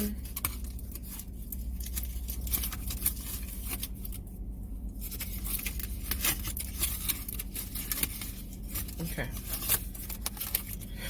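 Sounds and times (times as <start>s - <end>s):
food wrapper crinkling: 0.1s - 4.3s, 4.9s - 10.9s.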